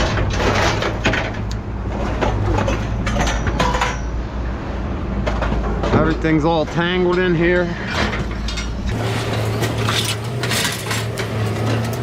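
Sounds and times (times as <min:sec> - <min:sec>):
scrap metal clanking and scraping: 0:00.0 - 0:04.3, 0:05.2 - 0:12.0.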